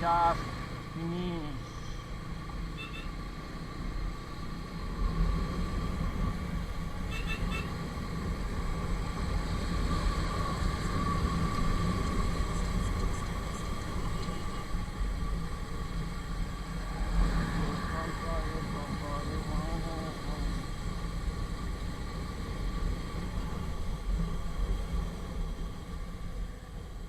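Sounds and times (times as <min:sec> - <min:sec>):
motorcycle running: 0:00.0 - 0:27.0
wind and road noise: 0:00.0 - 0:27.0.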